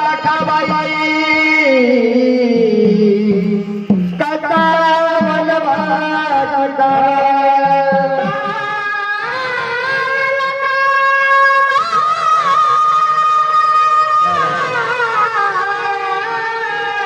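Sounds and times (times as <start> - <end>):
folk melody sliding in pitch: 0.0 - 17.0
drum strokes: 0.1 - 17.0.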